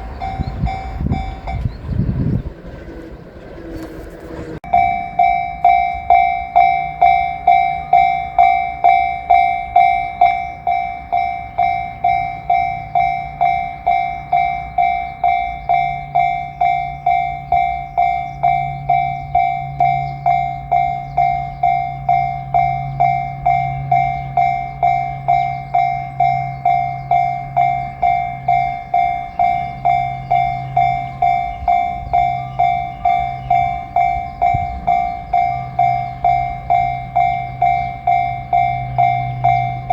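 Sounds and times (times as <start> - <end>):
level crossing warning bell ringing: 0.0 - 1.8, 4.6 - 39.9
train low drone: 0.0 - 39.9.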